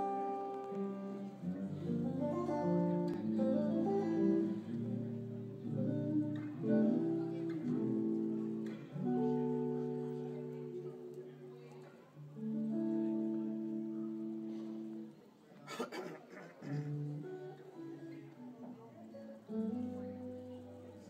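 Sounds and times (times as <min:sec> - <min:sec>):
clean electric guitar: 0:00.0 - 0:15.3, 0:16.6 - 0:21.0.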